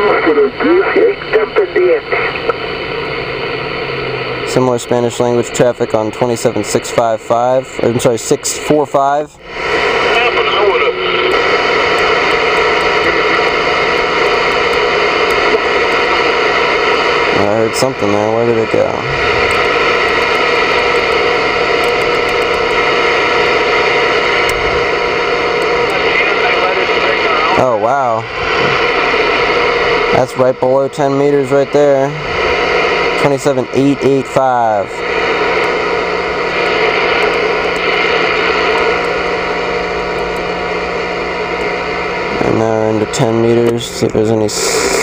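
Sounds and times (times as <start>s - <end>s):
low hum: 0.0s - 45.0s
radio static hiss: 0.0s - 45.0s.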